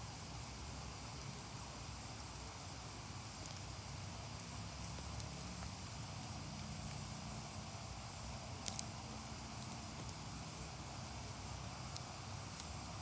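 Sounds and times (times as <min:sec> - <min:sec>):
fire crackles: 0:00.0 - 0:13.0
wood fire burning: 0:00.0 - 0:13.0.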